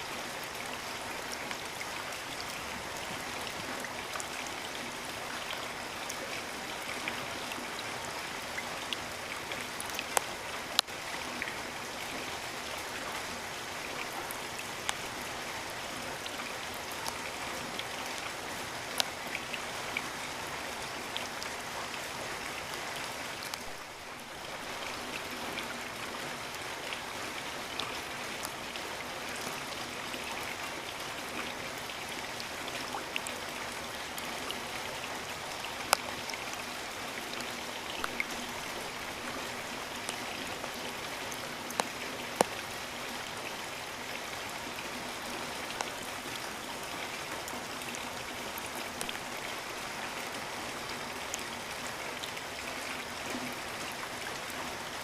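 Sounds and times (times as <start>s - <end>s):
raindrops hitting close by: 0.0s - 55.0s.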